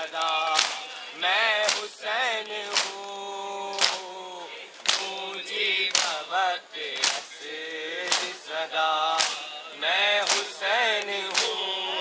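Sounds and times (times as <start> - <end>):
men chanting a lament: 0.0 - 12.0
people slapping their chests: 0.0 - 12.0.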